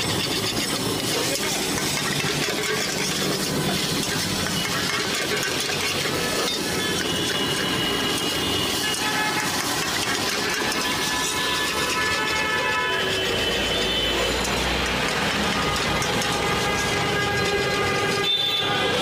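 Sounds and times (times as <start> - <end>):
gas burner hiss: 0.0 - 19.0
metal spatula scraping wok: 0.0 - 19.0
noodles sizzling in a wok: 0.0 - 19.0.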